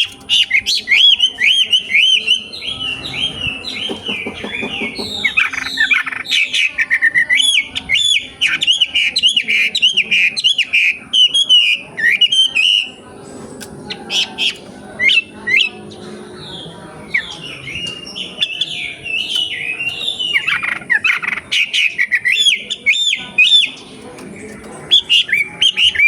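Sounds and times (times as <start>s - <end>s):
songbird chirping and whistling: 0.0s - 13.0s, 13.9s - 23.9s, 24.8s - 26.0s.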